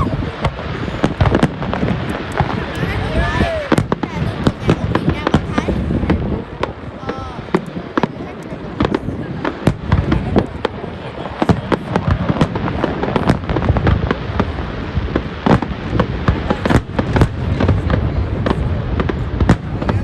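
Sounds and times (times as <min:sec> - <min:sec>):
fireworks bangs and cracks: 0:00.0 - 0:20.0
low rumble of bursting shells: 0:00.0 - 0:20.0.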